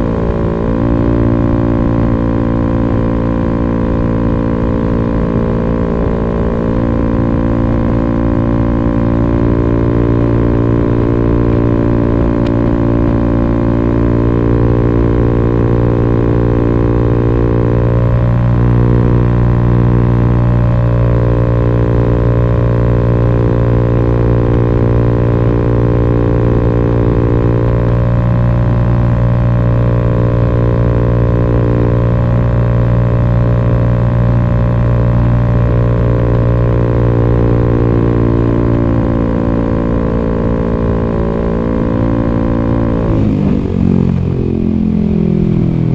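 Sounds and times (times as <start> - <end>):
scooter engine exhaust note: 0.0 - 45.9.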